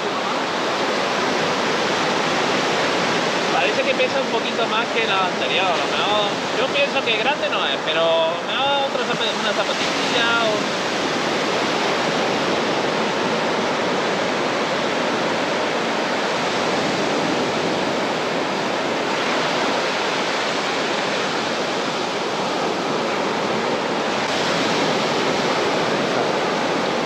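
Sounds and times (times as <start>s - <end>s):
sea surf breaking on beach: 0.0s - 27.0s.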